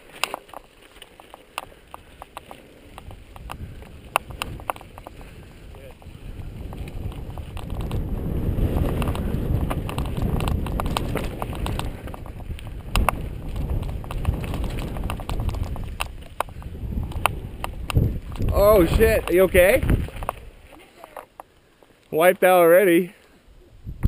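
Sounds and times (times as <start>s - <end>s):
bike clicking and rattling on stones: 0.0s - 23.1s
wind and tyres rumbling on dirt: 0.0s - 24.0s.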